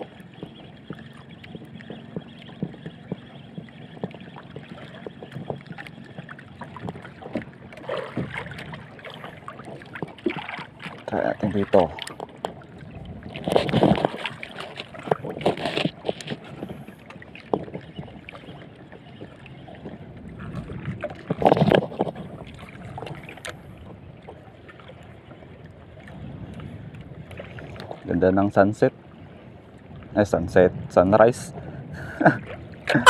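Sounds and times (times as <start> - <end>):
sea waves splashing against boat hull: 0.0 - 29.0, 29.8 - 33.0
wind: 0.0 - 33.0.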